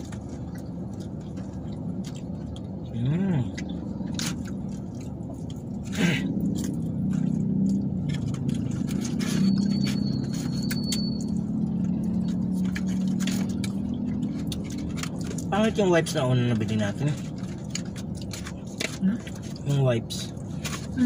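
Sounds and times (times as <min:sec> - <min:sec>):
car cabin hum: 0:00.0 - 0:21.0
chewing: 0:00.0 - 0:21.0.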